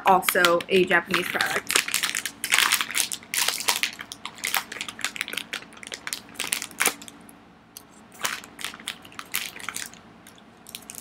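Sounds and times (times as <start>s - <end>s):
plastic packaging crinkling: 0.0s - 7.2s, 7.8s - 11.0s.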